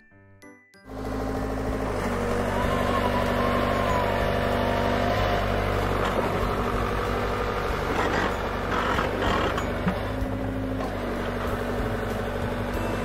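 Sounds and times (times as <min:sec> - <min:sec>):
dump truck engine running: 0:00.9 - 0:13.0.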